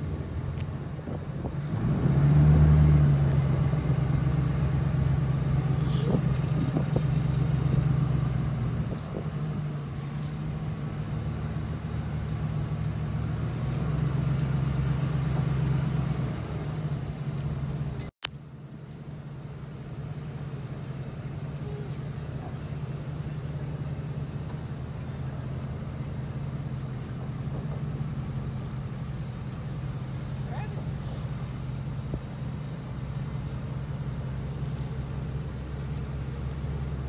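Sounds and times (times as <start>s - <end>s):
truck engine running: 0.0s - 37.0s.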